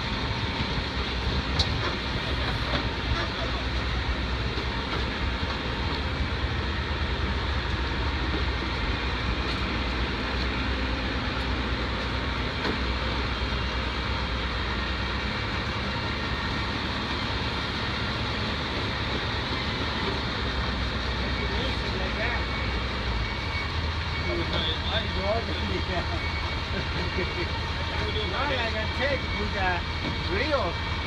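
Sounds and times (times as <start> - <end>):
truck machinery rumbling: 0.0 - 31.0.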